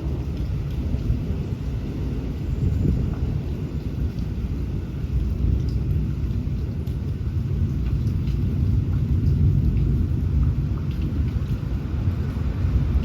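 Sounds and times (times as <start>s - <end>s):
raindrops ticking: 0.0s - 13.0s
rumble of thunder: 0.0s - 13.0s
steady rain: 0.0s - 13.0s.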